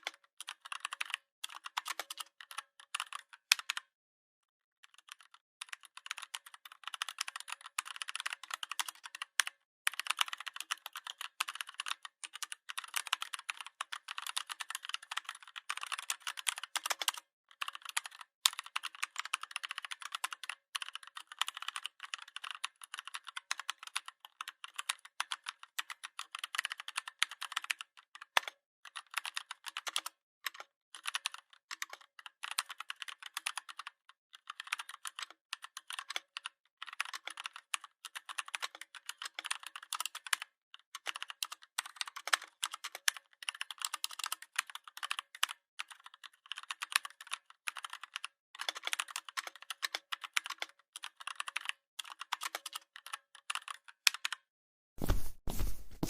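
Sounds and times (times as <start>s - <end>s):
fast typing on computer keyboard: 0.0s - 3.9s, 4.8s - 54.5s.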